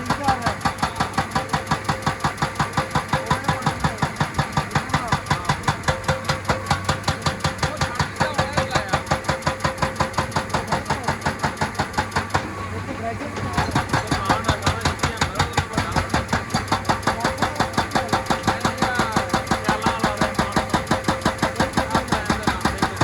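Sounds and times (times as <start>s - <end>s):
diesel engine running: 0.0s - 23.0s
hydraulic breaker hammering rock: 0.0s - 23.0s.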